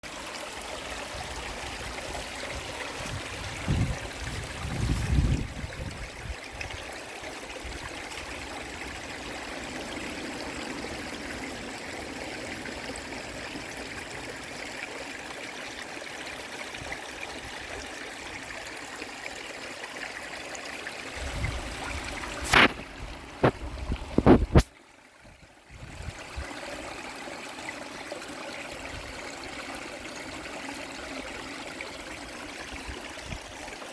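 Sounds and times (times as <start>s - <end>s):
river water flowing and trickling: 0.0s - 33.9s.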